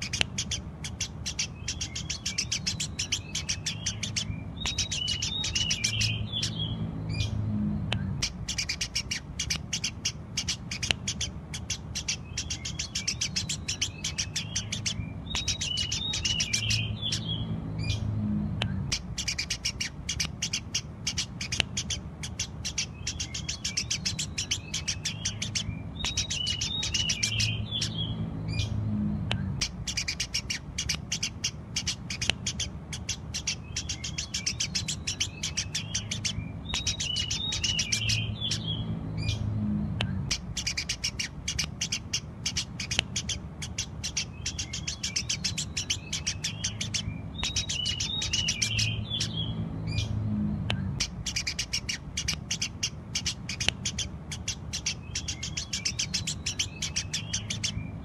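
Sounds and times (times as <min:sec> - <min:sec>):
sparrows chirping: 0:00.0 - 0:58.0
steady low hum: 0:00.0 - 0:58.0.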